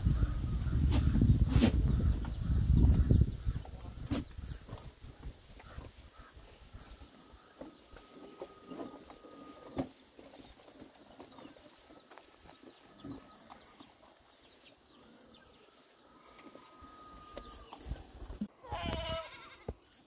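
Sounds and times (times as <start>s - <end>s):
birds chirping: 0.0s - 18.1s.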